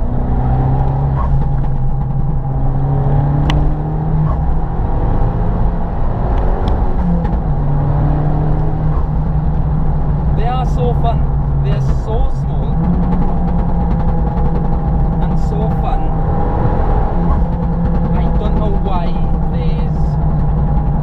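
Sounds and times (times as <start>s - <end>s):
car engine pulling hard: 0.0s - 21.0s.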